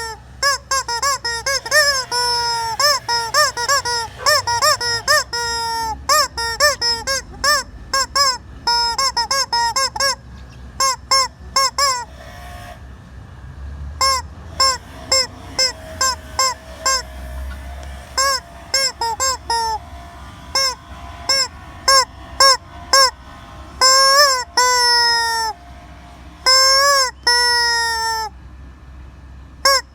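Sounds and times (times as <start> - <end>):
rubber chicken toy squawking: 0.0 - 12.3, 14.0 - 23.2, 23.8 - 25.6, 26.4 - 28.4, 29.6 - 29.9.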